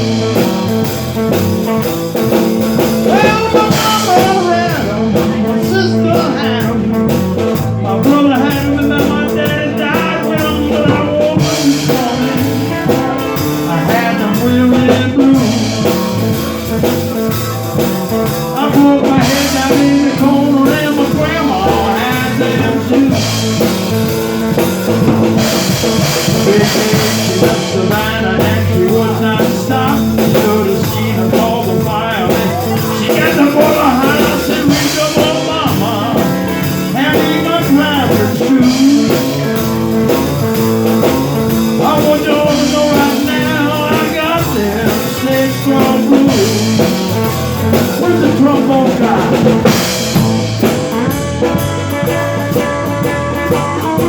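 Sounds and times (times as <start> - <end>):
blues band playing: 0.0 - 54.0
guitar: 0.0 - 54.0.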